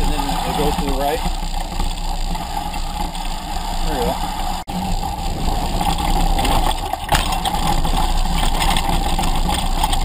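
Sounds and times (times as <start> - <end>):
bike tyres rattling over dirt: 0.0 - 10.0.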